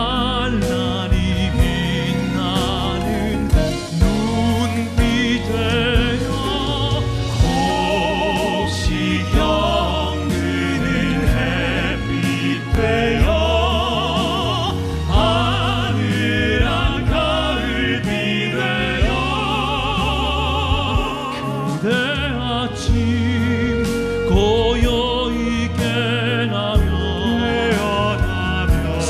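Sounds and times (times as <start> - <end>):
instrumental accompaniment: 0.0 - 29.0
men singing operatic ballad: 0.0 - 29.0.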